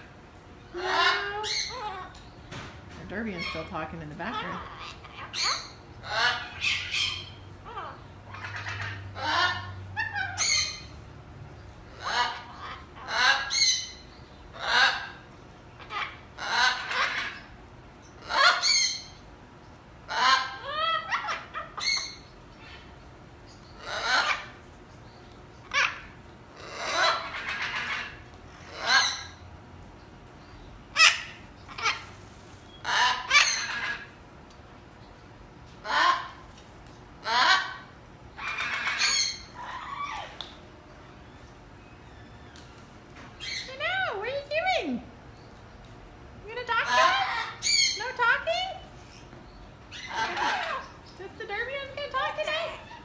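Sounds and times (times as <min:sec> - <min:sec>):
parrots squawking: 0:00.7 - 0:02.2, 0:03.0 - 0:19.3, 0:19.9 - 0:24.8, 0:25.6 - 0:29.4, 0:30.9 - 0:34.3, 0:35.8 - 0:36.6, 0:37.2 - 0:45.0, 0:46.5 - 0:53.0.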